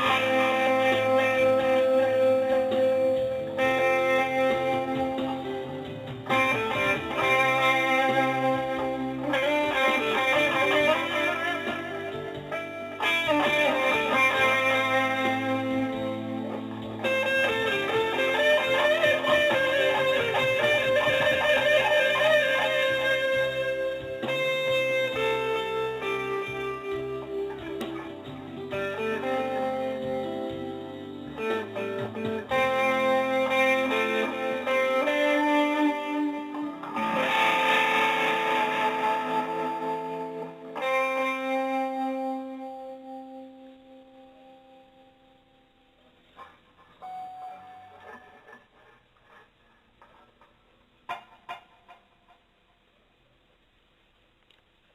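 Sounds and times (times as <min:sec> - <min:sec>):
guitar music: 0:00.0 - 0:49.5.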